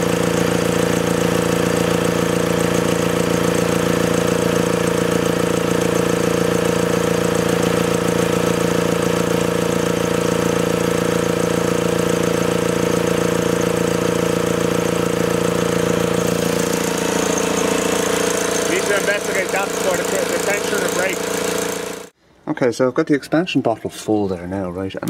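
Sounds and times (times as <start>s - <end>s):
diesel engine idling: 0.0s - 22.2s.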